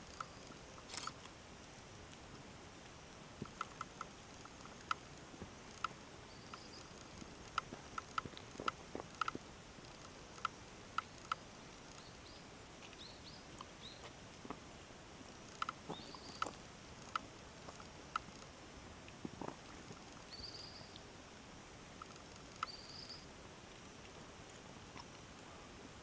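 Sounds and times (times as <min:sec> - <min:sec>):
small clicks and ticks: 0:00.0 - 0:14.6, 0:15.2 - 0:21.1, 0:21.9 - 0:25.5
faint outdoor ambience: 0:00.0 - 0:26.0.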